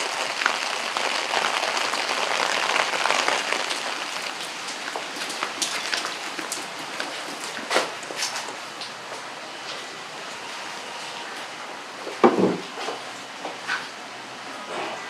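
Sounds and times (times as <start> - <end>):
rain pattering: 0.0 - 12.3.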